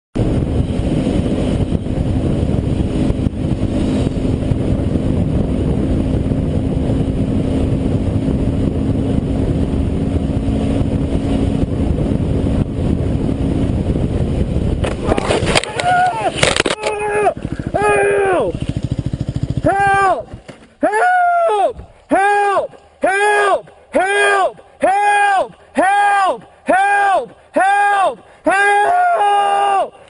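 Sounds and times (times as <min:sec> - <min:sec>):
road and wind noise: 0:00.1 - 0:30.0
motorcycle engine hum: 0:00.2 - 0:26.7.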